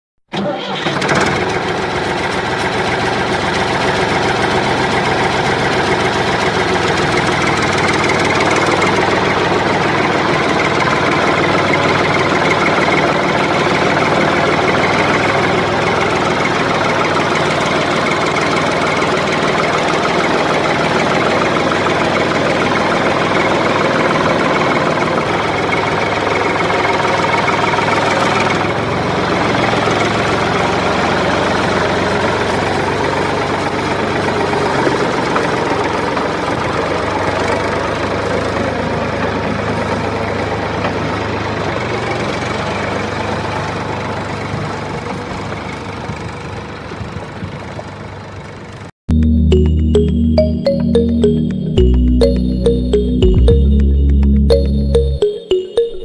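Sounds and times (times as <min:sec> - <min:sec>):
diesel engine idling with knocking: 0:00.6 - 0:48.9.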